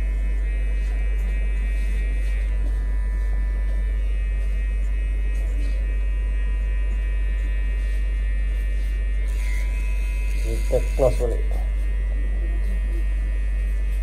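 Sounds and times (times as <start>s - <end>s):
electric hair clipper buzzing: 0.0s - 14.0s.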